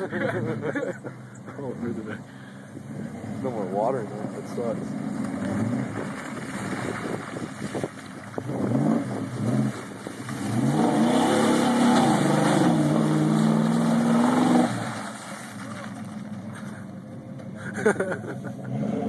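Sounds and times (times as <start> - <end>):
pickup engine revving: 0.0 - 19.0.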